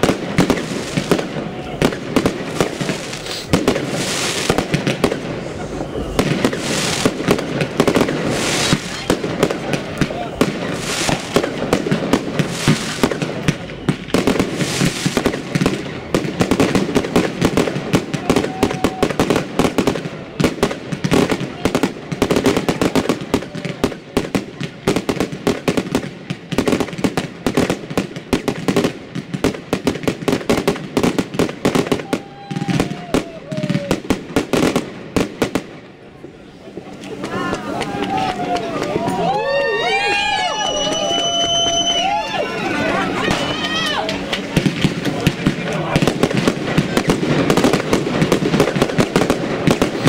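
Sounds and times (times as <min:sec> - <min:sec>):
fireworks popping and crackling: 0:00.0 - 0:50.0.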